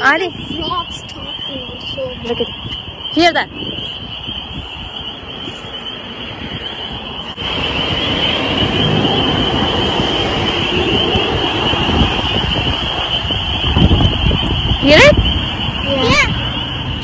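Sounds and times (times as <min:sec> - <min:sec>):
frogs trilling chorus: 0:00.0 - 0:17.0
wind noise on microphone: 0:00.0 - 0:17.0.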